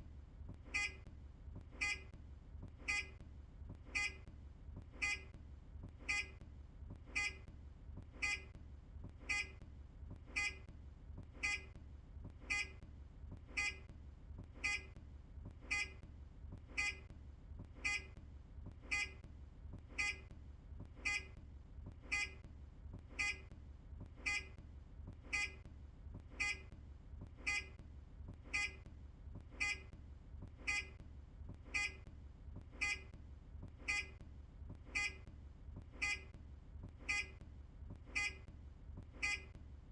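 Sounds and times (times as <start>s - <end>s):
turn signal beeping: 0.5s - 39.6s.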